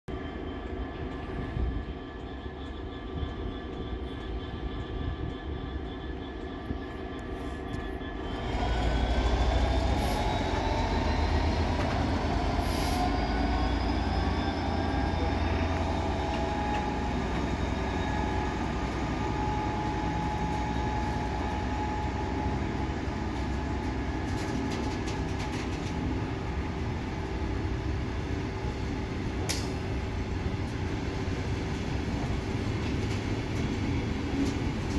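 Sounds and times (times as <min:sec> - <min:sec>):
diesel locomotive idling: 0:00.1 - 0:34.9
locomotive engine whine pulling away: 0:00.2 - 0:34.9.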